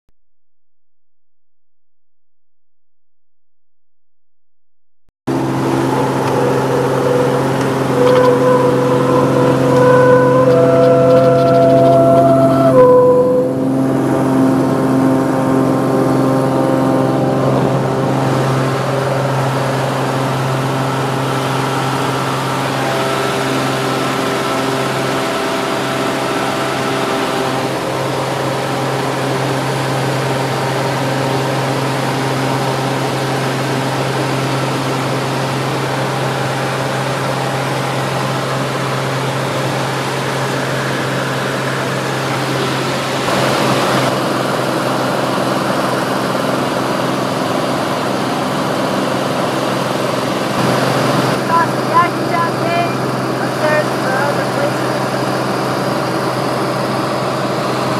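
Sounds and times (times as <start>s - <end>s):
aircraft engine and propeller drone: 5.3s - 57.9s.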